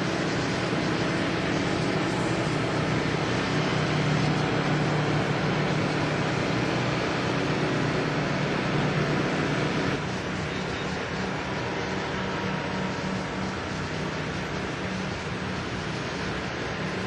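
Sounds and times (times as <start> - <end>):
propeller engine running: 0.0 - 17.0.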